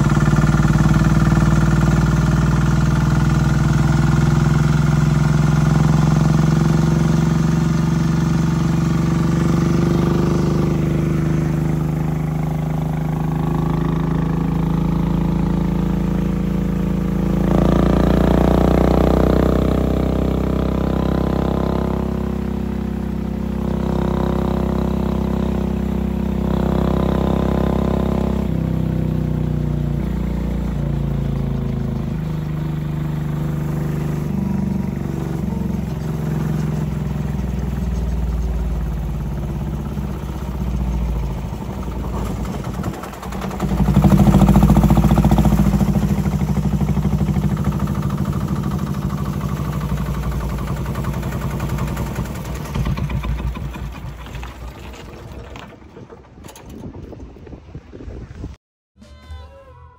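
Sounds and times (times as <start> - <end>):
diesel engine running: 0.0 - 56.7.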